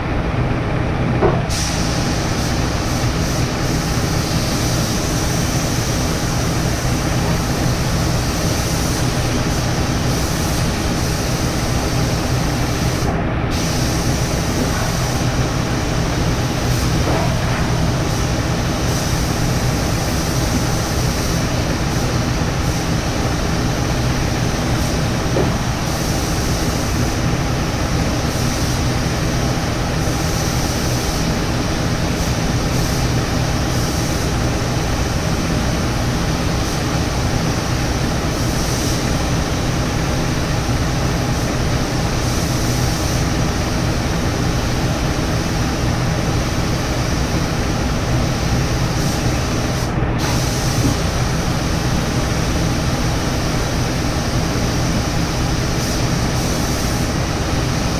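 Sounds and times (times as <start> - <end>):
paint spraying hiss: 1.5 - 57.9.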